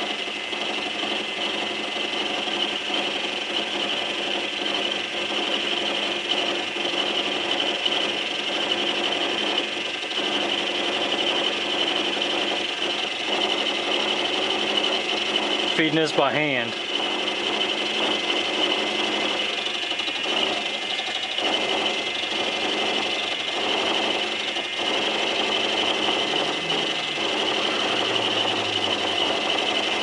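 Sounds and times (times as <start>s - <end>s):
lathe milling metal: 0.0s - 30.0s.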